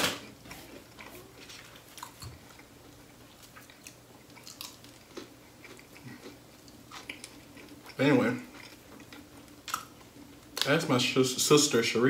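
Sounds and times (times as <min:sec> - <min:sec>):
person chewing: 0:00.5 - 0:10.7.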